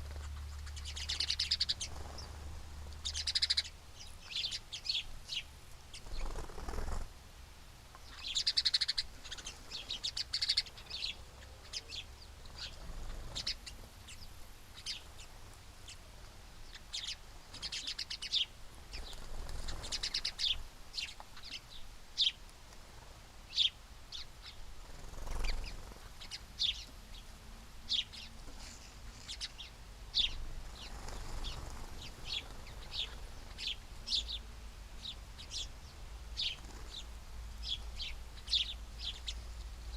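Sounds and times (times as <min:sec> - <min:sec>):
small birds chirping: 0:00.0 - 0:07.2, 0:07.8 - 0:39.9.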